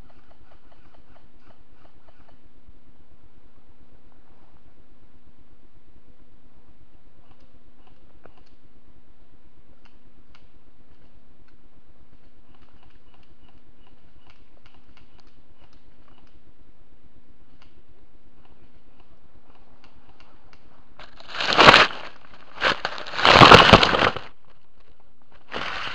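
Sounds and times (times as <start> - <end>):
faint hum: 0.0 - 25.9.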